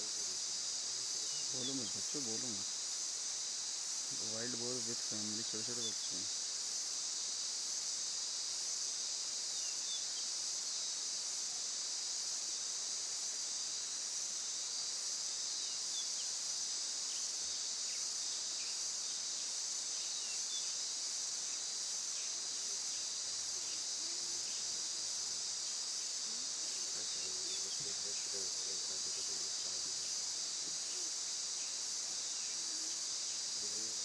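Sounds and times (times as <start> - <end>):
insects chirping chorus: 0.0 - 34.0.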